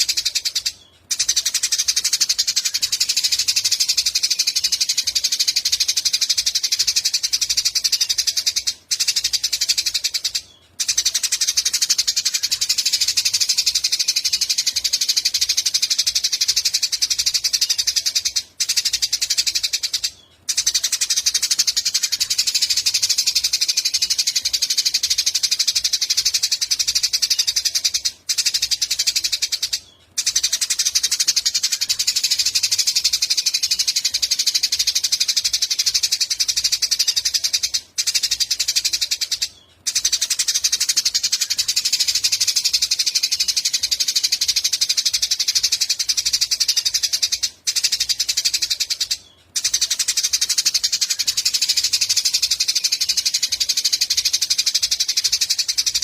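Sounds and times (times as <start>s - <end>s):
songbird trilling chatter: 0.0s - 56.0s.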